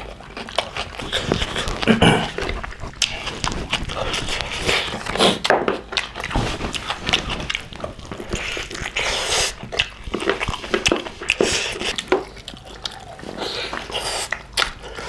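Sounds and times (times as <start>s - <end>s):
wet chewing and lip-smacking: 0.0s - 15.0s.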